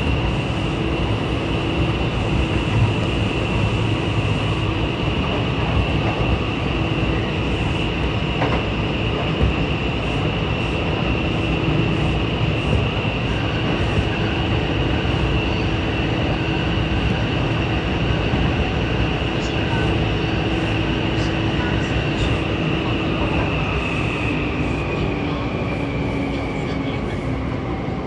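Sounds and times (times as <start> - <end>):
constant high whine: 0.0 - 28.0
train wheels rumbling on rail: 0.0 - 28.0.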